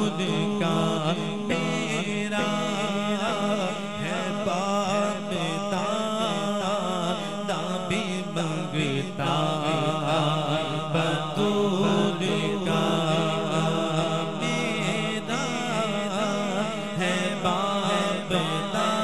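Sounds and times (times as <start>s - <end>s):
men singing devotional song: 0.0s - 19.0s.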